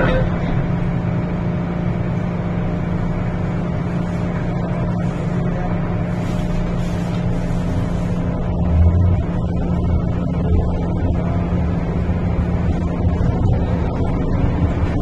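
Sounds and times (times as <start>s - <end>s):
train car hum and rumble: 0.0s - 15.0s.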